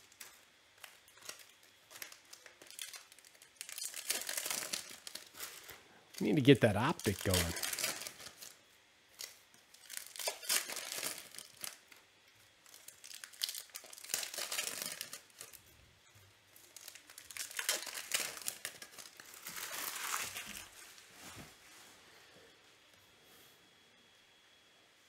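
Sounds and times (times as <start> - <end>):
foil pack crinkling: 0.0 - 15.7, 16.5 - 21.1.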